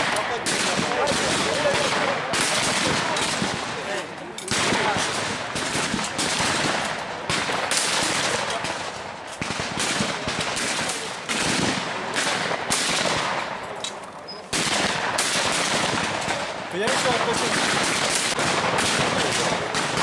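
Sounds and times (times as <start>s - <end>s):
shotgun shots with echo: 0.0s - 13.7s, 14.5s - 20.0s.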